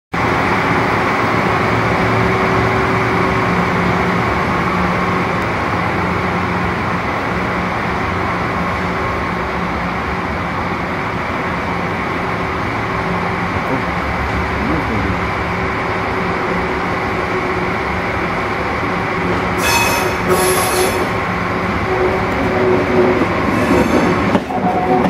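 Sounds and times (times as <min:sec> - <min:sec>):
train humming: 0:00.2 - 0:25.0.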